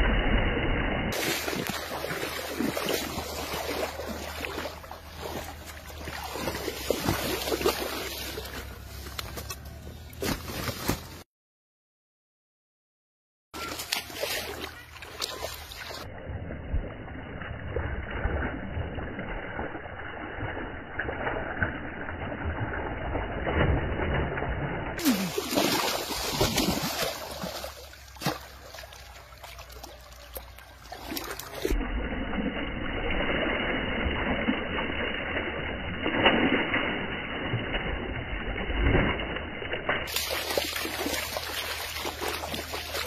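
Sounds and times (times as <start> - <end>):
river water splashing: 1.1 - 11.2, 13.6 - 43.0.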